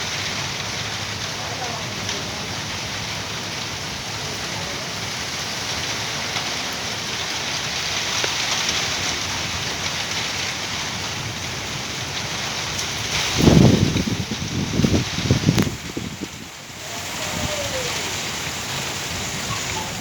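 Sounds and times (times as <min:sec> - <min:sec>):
low thunder rumble: 0:00.0 - 0:20.0
steady rain falling: 0:00.0 - 0:20.0.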